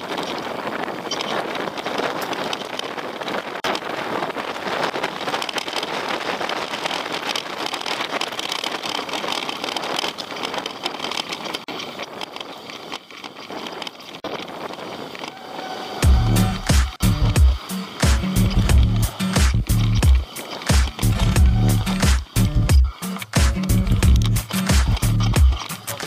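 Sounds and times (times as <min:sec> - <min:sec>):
bike tyres on rough trail: 0:00.0 - 0:26.0
wind on microphone: 0:00.0 - 0:26.0.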